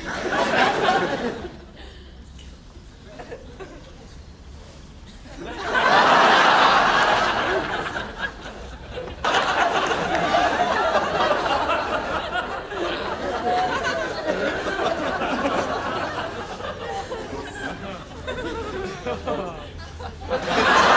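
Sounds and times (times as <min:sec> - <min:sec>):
studio audience laughing: 0:00.0 - 0:01.8, 0:05.4 - 0:20.9.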